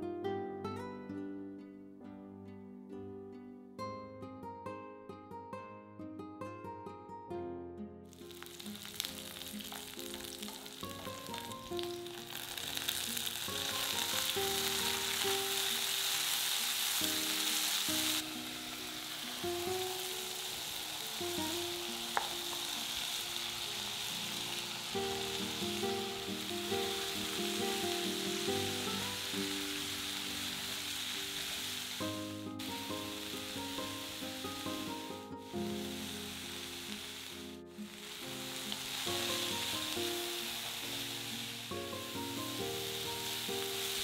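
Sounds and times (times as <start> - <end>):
plucked string music: 0.0 - 44.0
vegetables sizzling in hot oil: 8.1 - 44.0.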